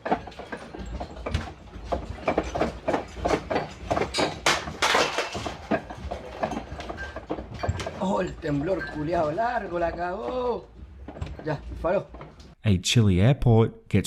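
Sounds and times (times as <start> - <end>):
objects rattling and knocking: 0.0 - 12.6.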